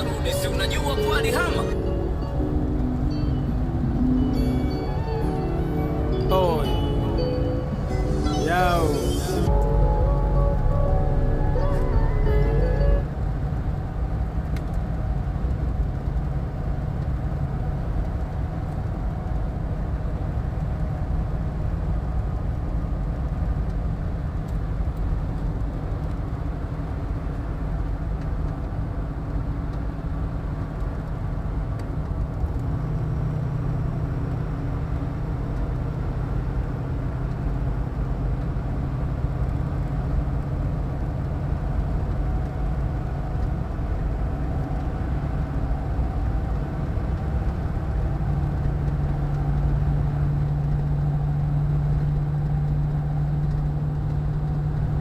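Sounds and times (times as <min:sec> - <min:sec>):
road noise: 0:00.0 - 0:55.0
vehicle engine rumble: 0:00.0 - 0:55.0.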